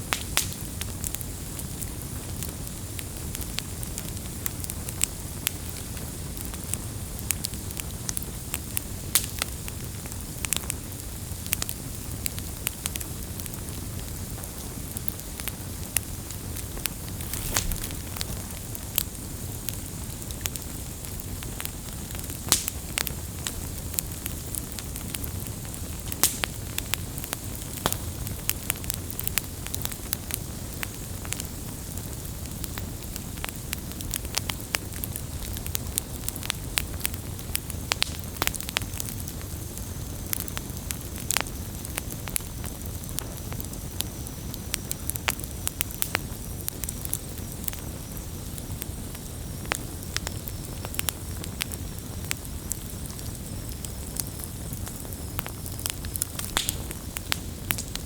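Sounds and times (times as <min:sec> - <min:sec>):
campfire burning: 0:00.0 - 0:58.0
wood crackling and popping: 0:00.0 - 0:58.0.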